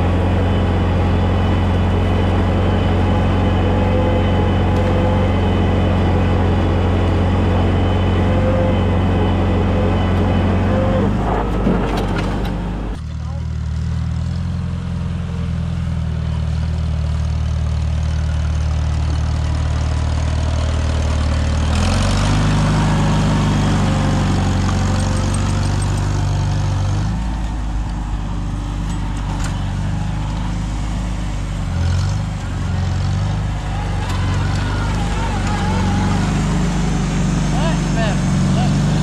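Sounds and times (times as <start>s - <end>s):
tractor engine running: 0.0s - 39.0s.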